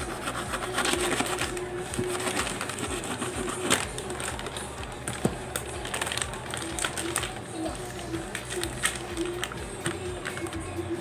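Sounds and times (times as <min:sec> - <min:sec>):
foil packet crinkling: 0:00.0 - 0:10.6.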